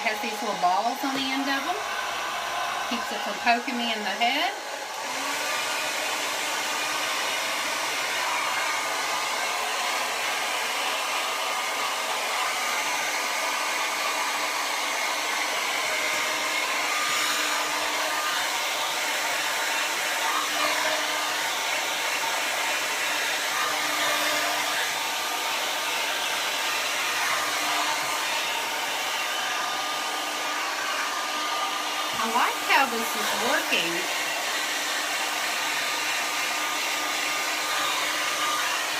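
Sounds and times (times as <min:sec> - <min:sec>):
hair dryer blowing air: 0:00.0 - 0:38.9.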